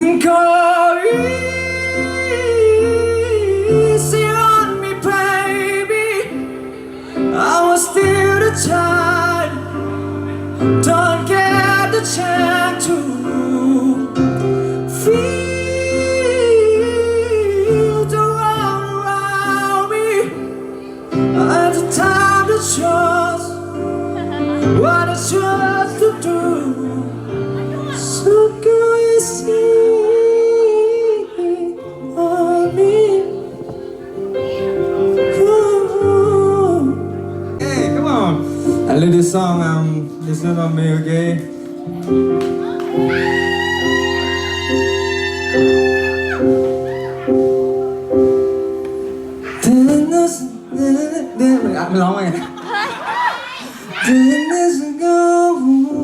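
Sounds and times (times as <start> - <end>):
low accompaniment chords: 0.0 - 53.2
person singing ballad: 0.0 - 56.0.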